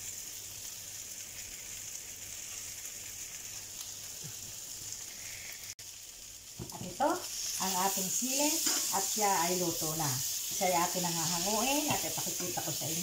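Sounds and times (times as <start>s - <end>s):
peppers sizzling in a frying pan: 0.0s - 13.0s.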